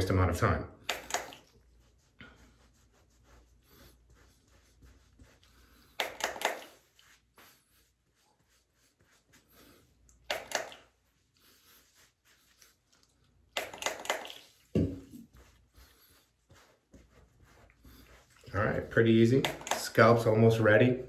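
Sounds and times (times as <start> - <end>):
towel rubbing on scalp: 0.9 - 21.0
towel swishes: 1.0 - 20.4.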